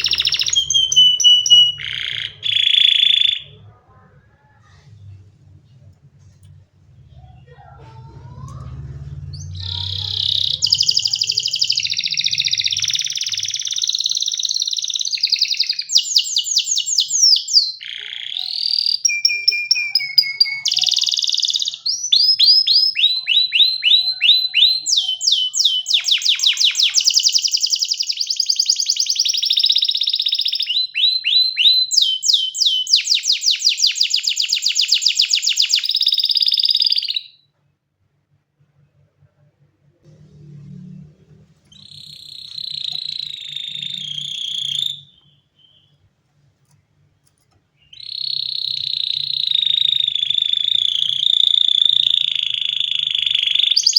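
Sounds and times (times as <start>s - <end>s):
canary singing trills: 0.0s - 4.6s, 7.0s - 37.5s, 41.6s - 46.1s, 47.8s - 53.9s.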